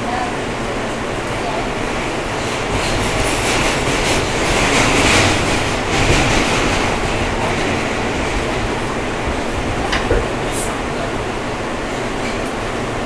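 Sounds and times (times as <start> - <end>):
subway car rumble and rail clatter: 0.0 - 13.0.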